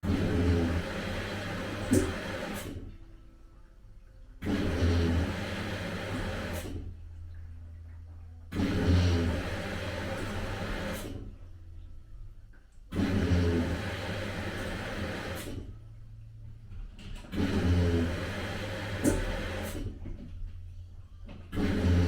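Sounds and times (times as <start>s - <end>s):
washing machine motor running: 0.0s - 3.2s, 4.1s - 22.0s.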